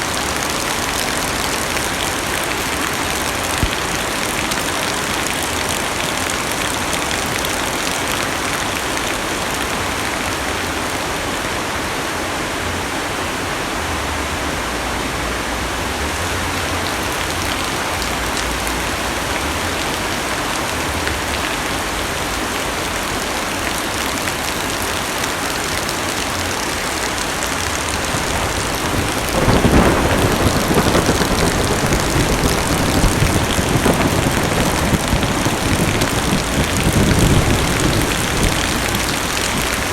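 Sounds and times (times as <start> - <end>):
heavy rain on car roof: 0.0 - 11.0, 15.1 - 39.9.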